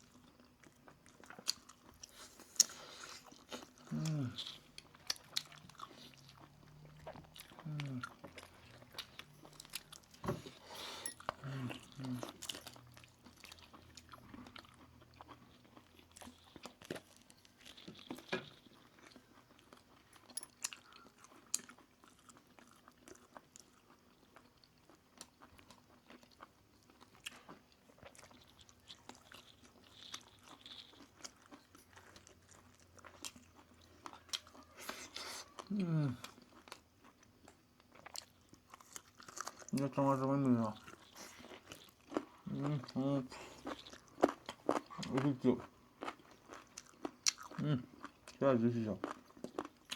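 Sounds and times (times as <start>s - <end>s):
chewing with crunches: 0.0s - 49.9s.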